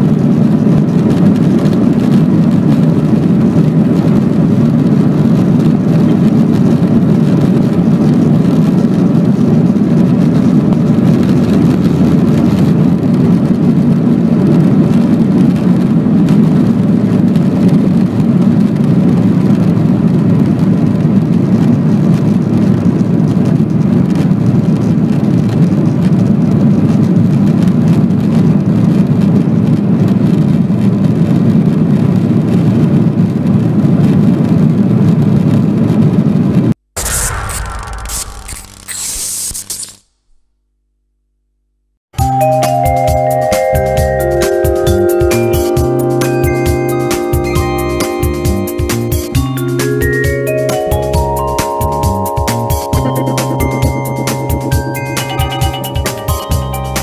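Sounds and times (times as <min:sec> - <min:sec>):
jet engine drone in cabin: 0:00.0 - 0:40.4, 0:44.5 - 0:57.0.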